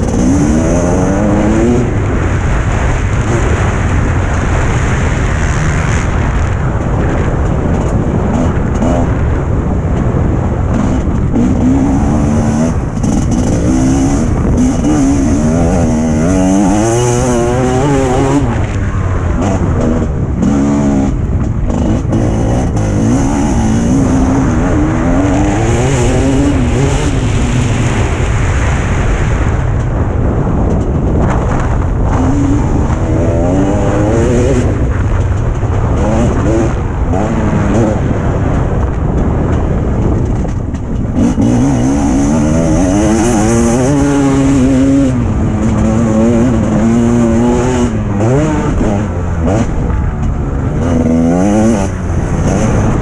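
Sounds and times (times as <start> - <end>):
motocross bike engine revving: 0.0 - 29.6, 31.2 - 53.0
wind on microphone: 0.0 - 53.0.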